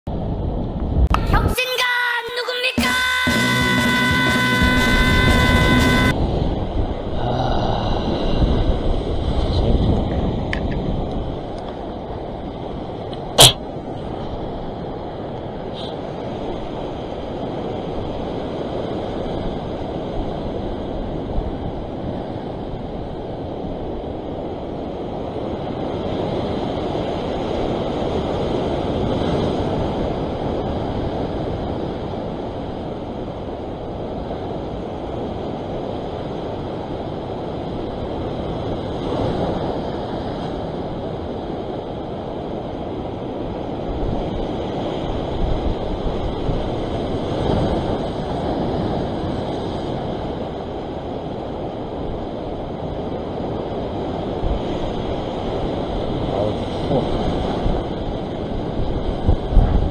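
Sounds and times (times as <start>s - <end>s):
wind buffeting microphone: 0.1s - 1.6s, 5.1s - 59.9s
ocean surf against rocks: 0.1s - 59.9s.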